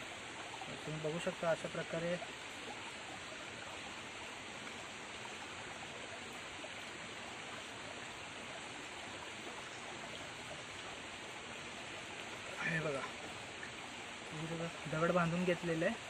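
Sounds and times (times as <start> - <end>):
stream flowing over stones: 0.0 - 16.0.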